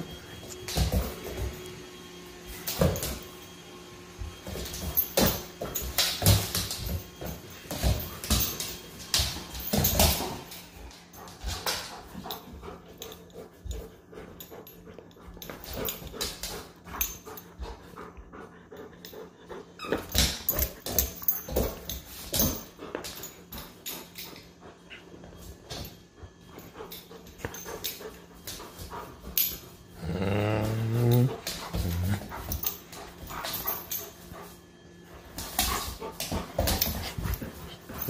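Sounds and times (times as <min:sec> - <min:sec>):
claws and toy on laminate floor: 0:00.0 - 0:38.0.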